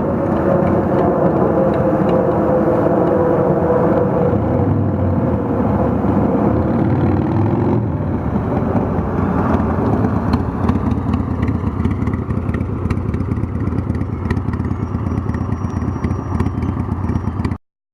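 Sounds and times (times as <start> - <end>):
motorcycle engine running: 0.0 - 17.6.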